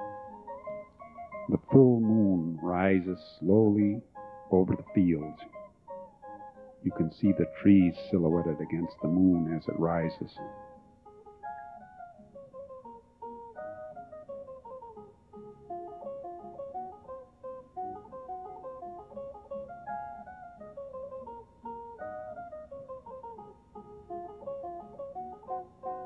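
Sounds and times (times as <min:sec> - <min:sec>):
plucked guitar melodic runs: 0:00.0 - 0:26.0.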